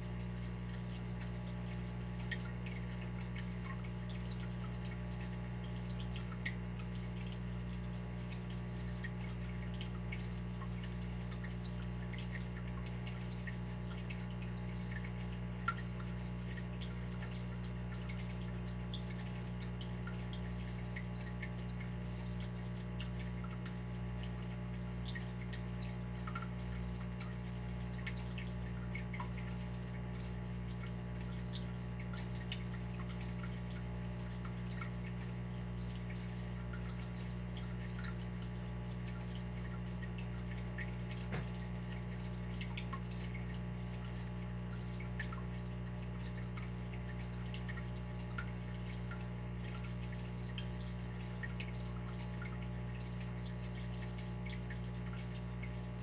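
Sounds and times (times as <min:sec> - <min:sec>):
small water drips: 0:00.0 - 0:56.0
water trickling: 0:00.0 - 0:56.0.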